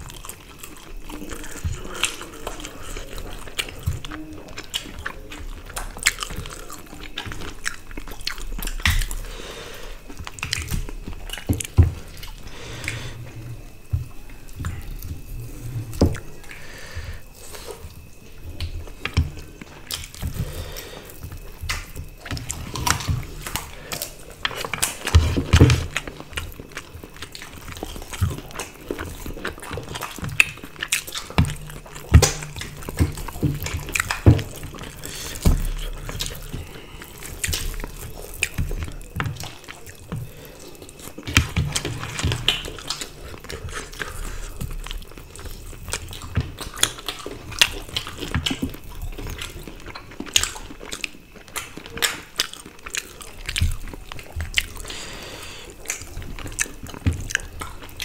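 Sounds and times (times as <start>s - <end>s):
chewing and lip smacks: 0.0s - 58.0s
low steady hum: 0.0s - 58.0s.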